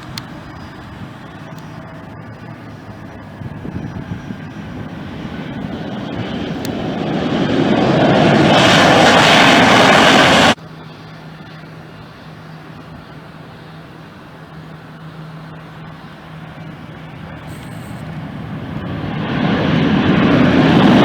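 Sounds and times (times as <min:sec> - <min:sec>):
jet airliner passing: 0:00.0 - 0:21.0.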